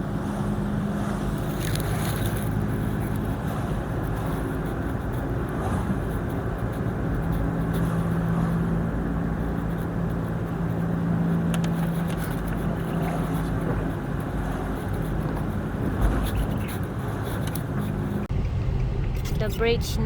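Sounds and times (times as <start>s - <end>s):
road and wind noise: 0.0s - 20.0s
vehicle engine hum: 0.0s - 20.0s.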